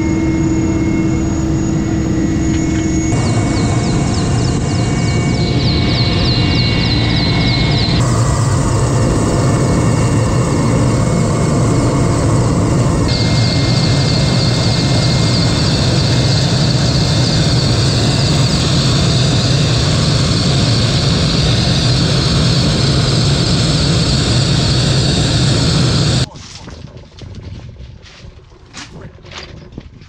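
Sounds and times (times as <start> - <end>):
helicopter engine and rotor drone: 0.0 - 26.3.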